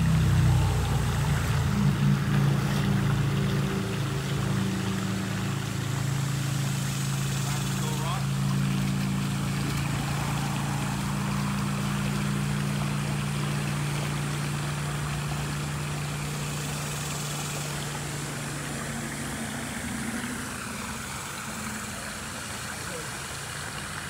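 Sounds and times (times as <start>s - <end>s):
creek water running: 0.0s - 24.0s
low engine-like hum: 0.0s - 24.0s.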